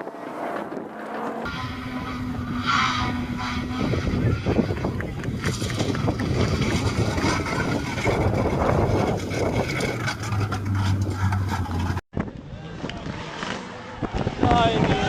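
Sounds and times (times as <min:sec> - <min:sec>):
road and wind noise: 0:00.0 - 0:15.0
rally car engine running hard: 0:01.4 - 0:15.0.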